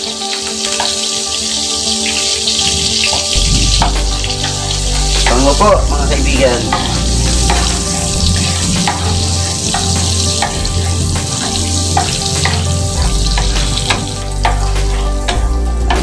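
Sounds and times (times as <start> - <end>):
butter sizzling in oil: 0.0 - 16.0
wooden spatula scraping a pan: 0.7 - 5.4, 6.6 - 16.0.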